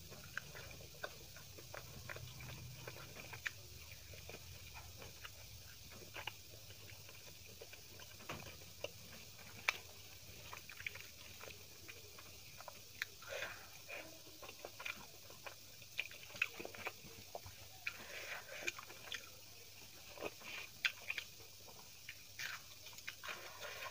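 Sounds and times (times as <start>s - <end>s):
fingers mixing rice wet clicks: 0.0s - 23.9s
mouth chewing: 0.0s - 23.9s.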